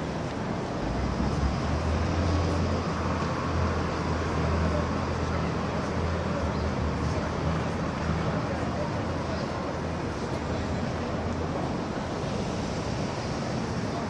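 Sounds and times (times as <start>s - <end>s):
city street traffic: 0.0s - 14.0s
heavy vehicle engine rumbling: 0.0s - 14.0s.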